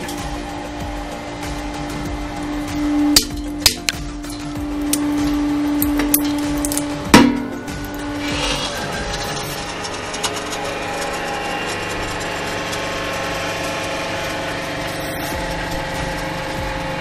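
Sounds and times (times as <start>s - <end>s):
hydraulic press running: 0.0s - 17.0s.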